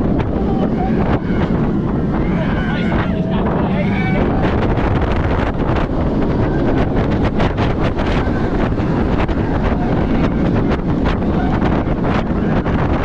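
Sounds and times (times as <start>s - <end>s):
steady rumble: 0.0s - 13.0s
wheels rattling on steel track: 0.0s - 13.0s
wind buffeting microphone: 0.0s - 13.0s.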